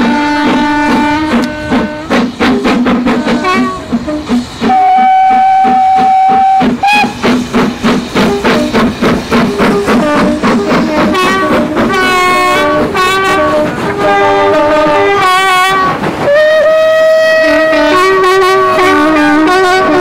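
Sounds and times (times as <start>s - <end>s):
steam locomotive whistle: 0.0s - 20.0s.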